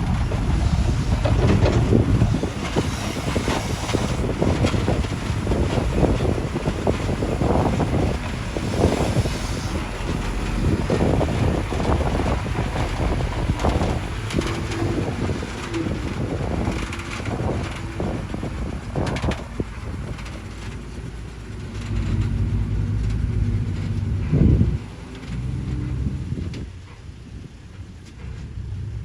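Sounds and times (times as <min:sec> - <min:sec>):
scattered knocks and crackles: 0:00.0 - 0:24.4
diesel engine of heavy machinery: 0:00.0 - 0:29.0.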